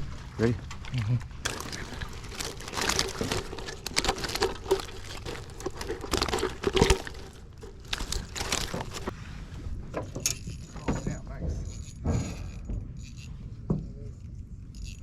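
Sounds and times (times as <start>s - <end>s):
crinkling and rustling handling: 0.0s - 14.4s.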